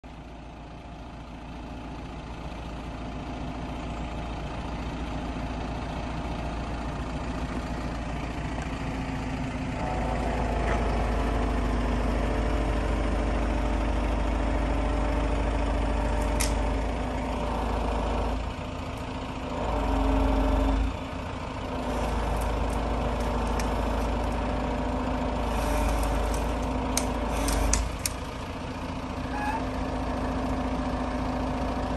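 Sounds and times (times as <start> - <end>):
truck engine running: 0.1 - 31.9
hydraulic crane working: 3.4 - 31.9.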